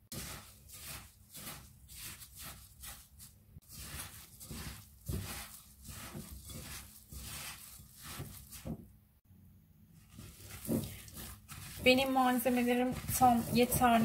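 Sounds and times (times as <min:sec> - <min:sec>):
gloved hand kneading moist mix: 0:00.0 - 0:09.1, 0:09.8 - 0:14.0.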